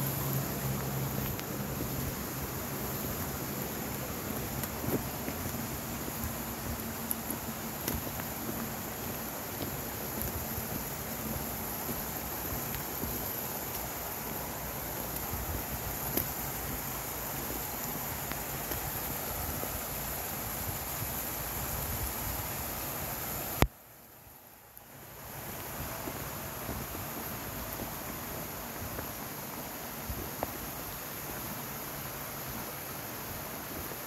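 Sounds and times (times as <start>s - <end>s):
creek cascading over rocks: 0.0s - 34.0s.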